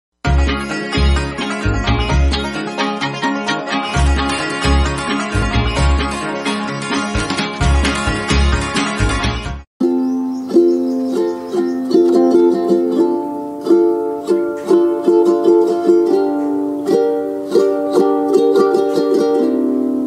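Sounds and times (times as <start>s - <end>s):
plucked string instrumental music: 0.2s - 20.0s.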